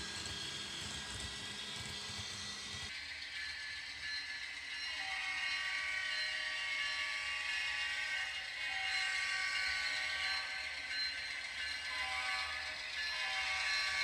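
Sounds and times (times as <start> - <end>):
model train motor whirring: 0.0 - 14.0.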